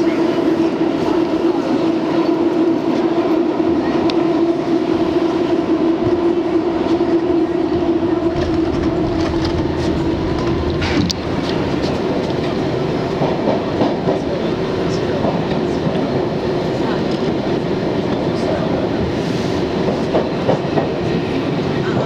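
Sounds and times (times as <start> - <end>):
subway wheels rumbling on track: 0.0 - 22.0.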